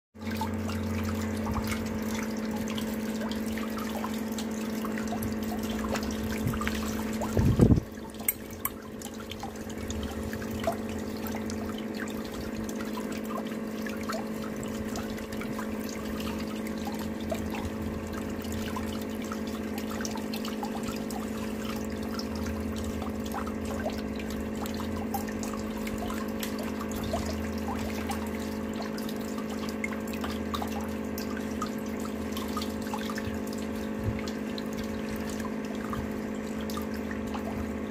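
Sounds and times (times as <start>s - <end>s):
small splashes and drips: 0.2s - 37.9s
steady hum: 0.2s - 37.9s
water swirling and trickling: 0.2s - 37.9s.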